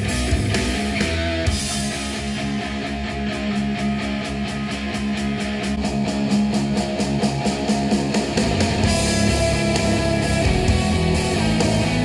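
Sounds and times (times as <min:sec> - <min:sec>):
rock song with guitar: 0:00.0 - 0:12.0.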